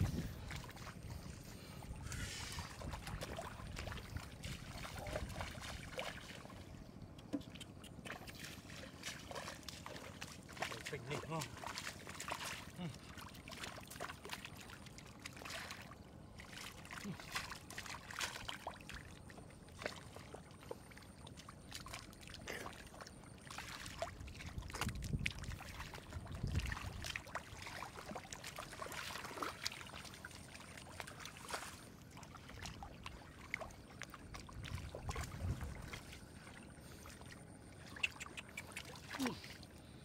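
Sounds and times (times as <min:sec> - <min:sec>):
hands splashing in muddy water: 0:00.0 - 0:06.7, 0:07.3 - 0:39.6
squelching in mud: 0:00.0 - 0:40.0.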